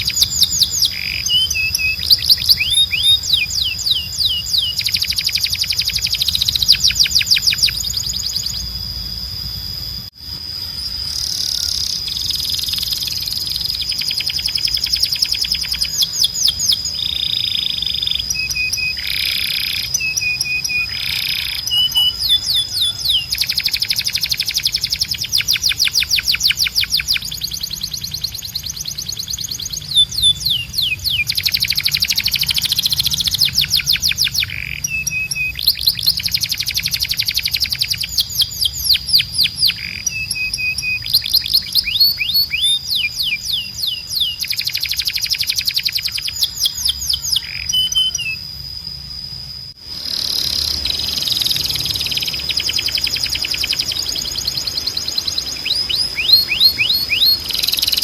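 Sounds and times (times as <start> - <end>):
canary singing: 0.0 - 48.5, 49.9 - 58.0.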